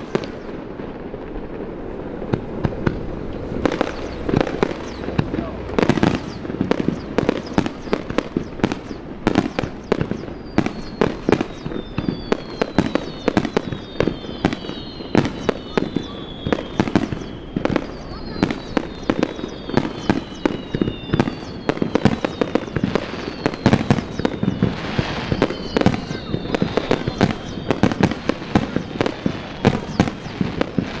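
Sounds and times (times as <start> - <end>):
fireworks bangs and bursts: 0.0 - 31.0
fireworks whistling down in pitch: 0.0 - 31.0.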